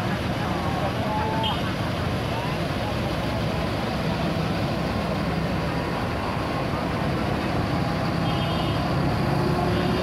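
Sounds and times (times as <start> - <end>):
diesel bus engine droning: 0.0 - 10.0.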